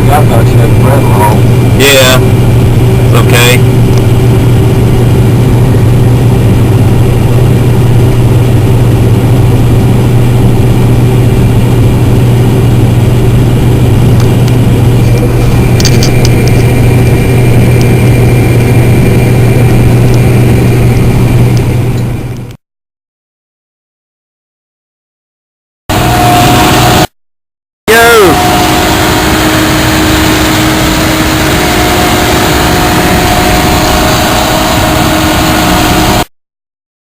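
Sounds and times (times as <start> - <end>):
combine harvester running: 0.0 - 22.6, 25.9 - 27.1, 27.9 - 36.3.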